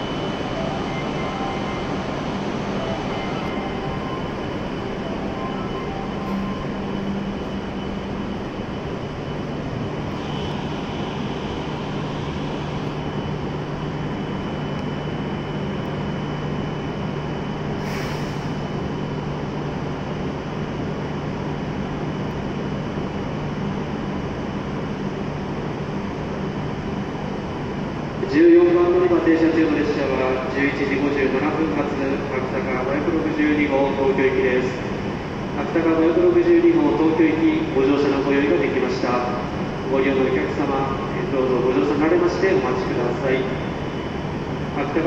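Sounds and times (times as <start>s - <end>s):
train equipment humming: 0.0s - 45.0s.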